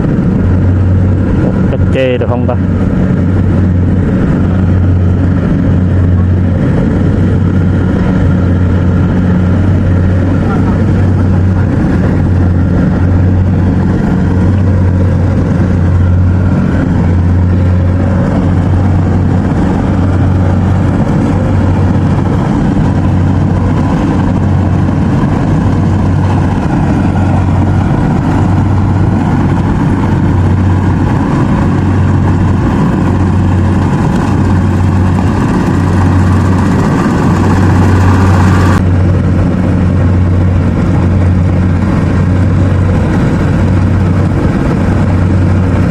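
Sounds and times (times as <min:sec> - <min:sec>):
combine harvester engine droning: 0:00.0 - 0:45.9.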